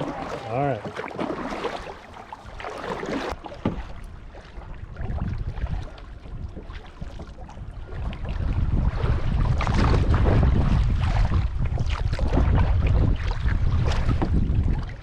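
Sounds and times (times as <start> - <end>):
paddle strokes splashing in water: 0.0 - 15.0
wind rumbling on microphone: 1.5 - 15.0.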